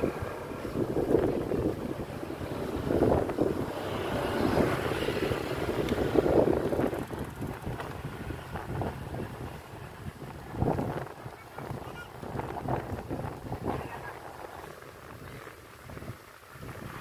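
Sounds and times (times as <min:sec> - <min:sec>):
motor scooters running: 0:00.0 - 0:17.0
wind buffeting microphone: 0:00.0 - 0:17.0.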